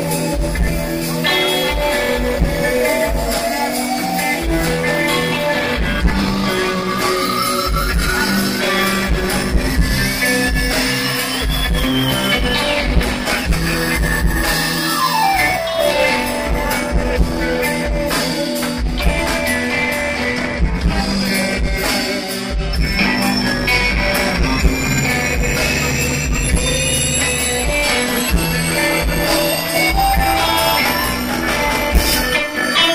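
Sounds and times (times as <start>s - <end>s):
rock band playing: 0.0s - 32.9s.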